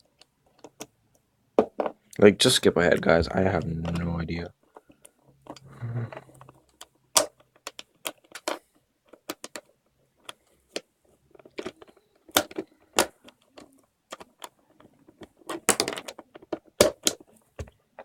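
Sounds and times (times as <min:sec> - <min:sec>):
plastic puzzle cube pieces clicking: 0:00.0 - 0:01.2, 0:04.7 - 0:18.0.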